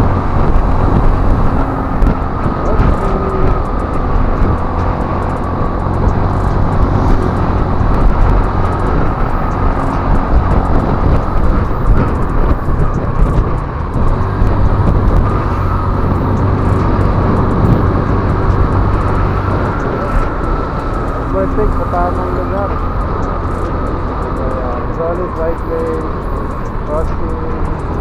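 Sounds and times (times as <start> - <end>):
scooter engine running: 0.0 - 28.0
wind rush on microphone: 0.0 - 28.0.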